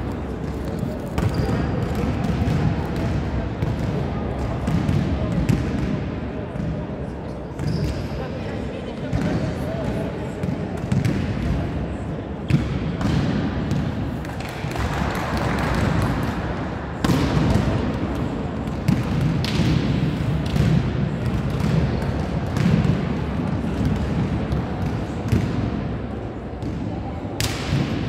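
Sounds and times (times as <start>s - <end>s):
volleyballs struck and bouncing: 0.0s - 8.0s, 9.1s - 28.0s.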